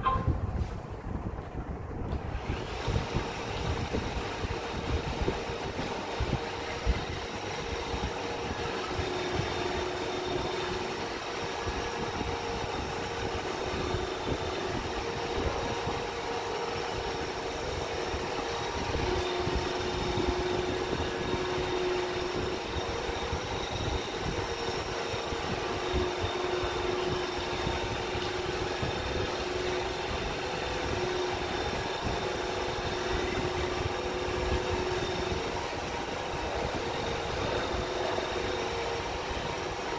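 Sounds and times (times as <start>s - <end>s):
robot vacuum motor hum: 2.1s - 39.9s.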